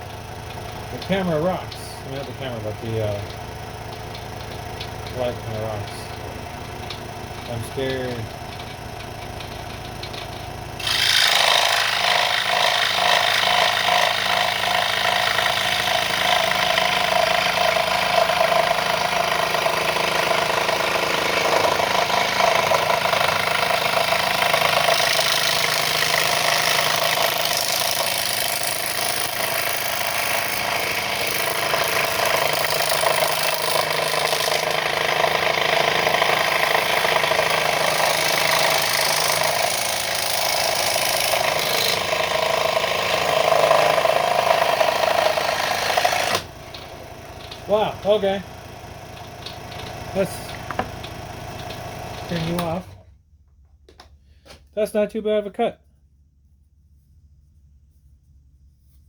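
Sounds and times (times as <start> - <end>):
scroll saw cutting plywood: 0.0 - 53.1.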